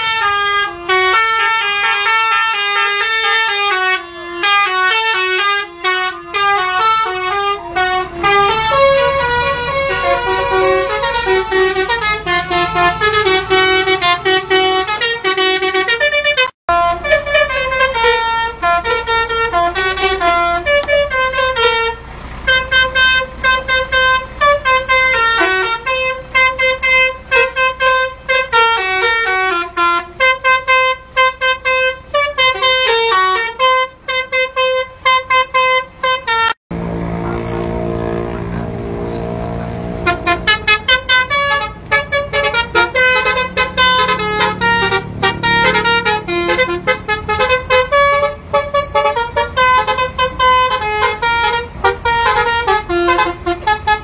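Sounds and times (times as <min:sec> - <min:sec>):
bus air horn melody: 0:00.0 - 0:54.0.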